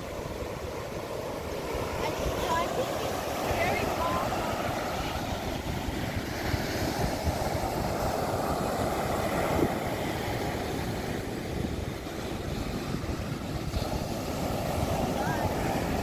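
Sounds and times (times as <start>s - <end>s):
small ocean waves breaking: 0.0s - 16.0s
wind buffeting microphone: 0.0s - 16.0s.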